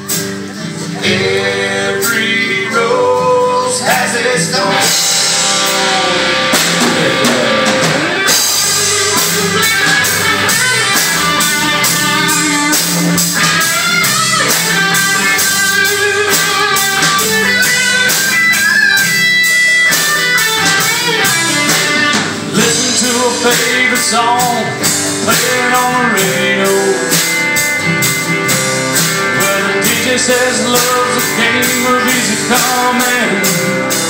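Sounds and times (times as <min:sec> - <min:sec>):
lead guitar melody: 0:00.0 - 0:34.0
rock band playing: 0:00.0 - 0:34.0.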